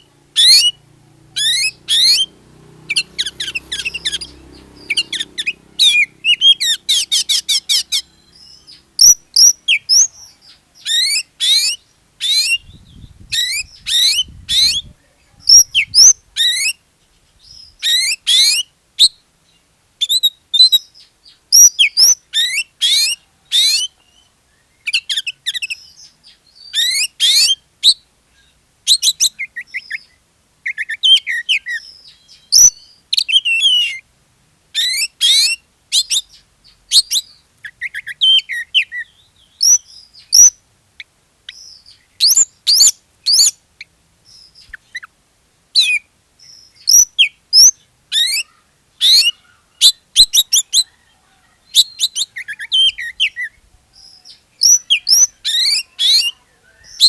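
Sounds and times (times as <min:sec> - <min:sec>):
songbird whistles and chirps: 0:00.0 - 0:34.1, 0:34.8 - 0:45.2, 0:45.8 - 0:57.0.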